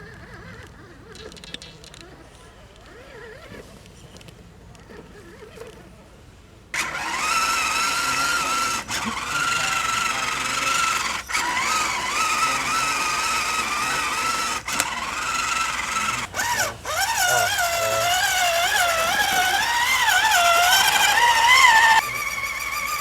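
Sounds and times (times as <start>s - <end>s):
electric motor and gears whining: 0.0s - 6.0s, 6.7s - 23.0s.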